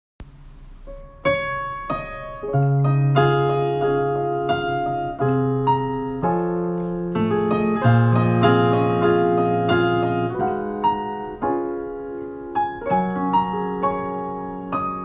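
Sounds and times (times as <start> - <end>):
piano chords and melody: 0.2 - 15.0.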